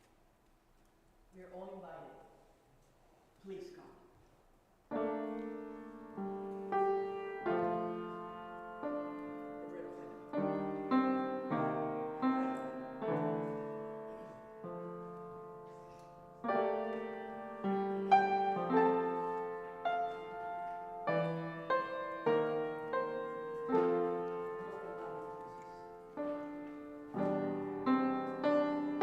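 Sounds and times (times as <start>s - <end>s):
solo piano chords: 4.9s - 29.0s.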